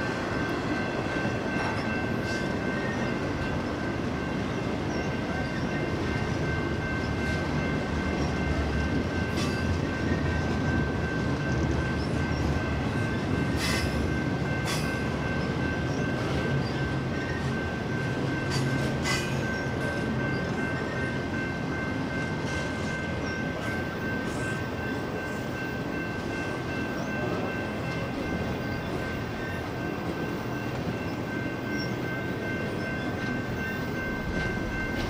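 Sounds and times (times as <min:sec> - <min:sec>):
steel wheels rumbling on rail: 0:00.0 - 0:35.0.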